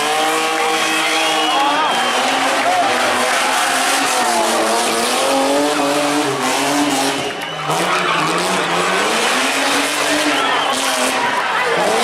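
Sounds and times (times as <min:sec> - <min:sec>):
rally car engine running hard: 0:00.0 - 0:12.0.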